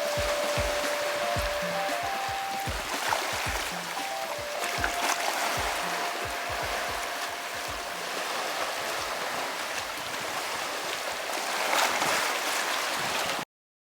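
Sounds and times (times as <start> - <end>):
low water gurgles: 0.0 - 13.4
rushing water: 0.0 - 13.4.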